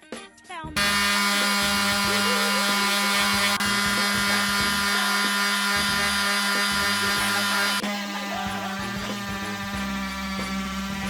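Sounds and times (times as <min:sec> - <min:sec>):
electric sander on wood: 0:00.8 - 0:11.0.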